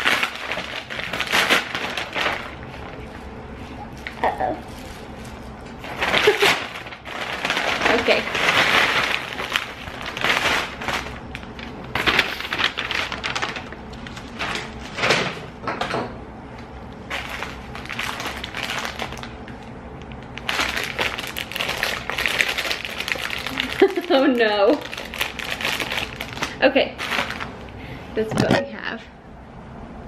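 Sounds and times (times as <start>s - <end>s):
plastic packaging crinkling: 0.0s - 15.3s, 17.0s - 27.8s.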